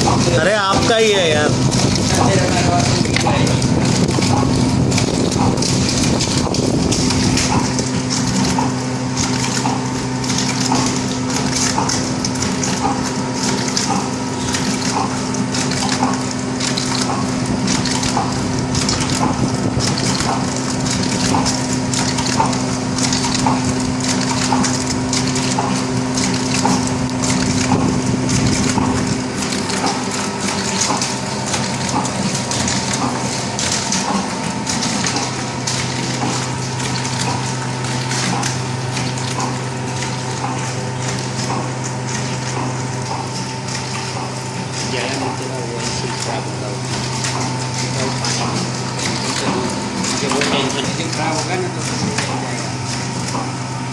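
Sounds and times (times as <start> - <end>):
packing machine hum: 0.0 - 53.9.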